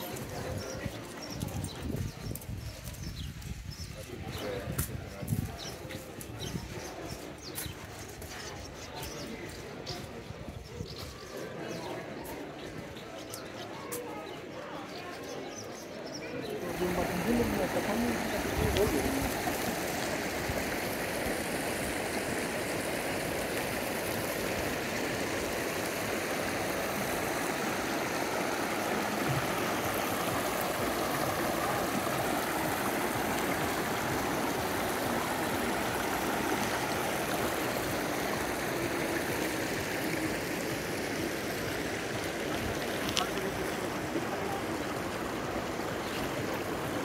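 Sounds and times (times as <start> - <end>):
running water rushing: 0.0 - 14.5, 16.3 - 47.0.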